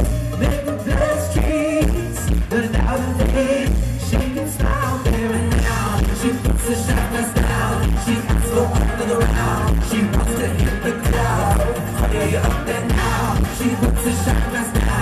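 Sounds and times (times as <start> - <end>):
live pop band playing: 0.0 - 15.0
man singing into a microphone: 0.0 - 15.0
strong bass beat: 0.0 - 15.0.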